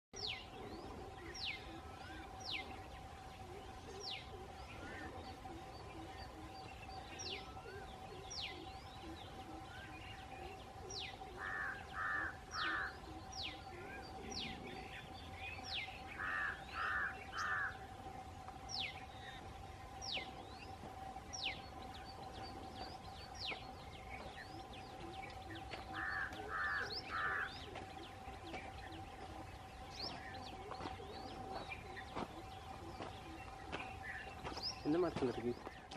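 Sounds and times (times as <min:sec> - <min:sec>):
steady hum: 0:00.2 - 0:35.9.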